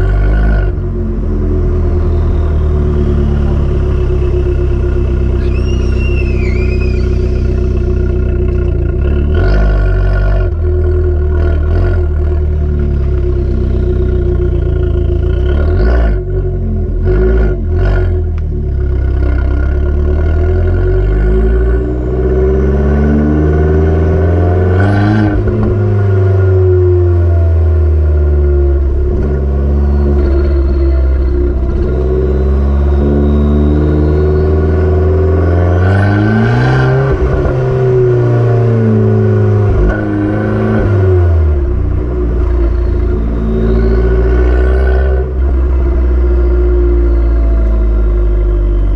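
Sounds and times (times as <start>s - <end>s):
car engine and exhaust: 0.0s - 48.9s.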